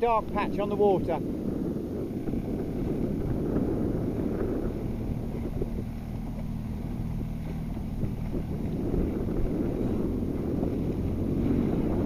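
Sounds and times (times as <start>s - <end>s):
outboard motor running: 0.0s - 12.0s
water lapping against hull: 0.0s - 12.0s
wind noise on microphone: 0.0s - 12.0s.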